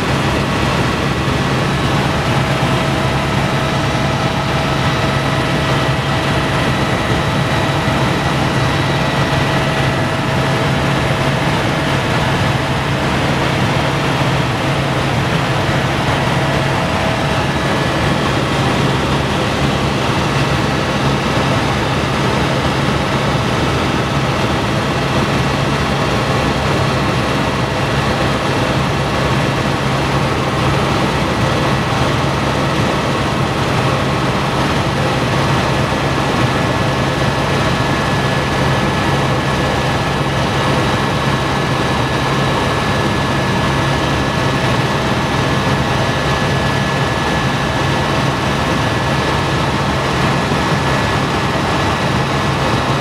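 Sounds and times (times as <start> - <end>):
helicopter cabin drone: 0.0 - 53.0.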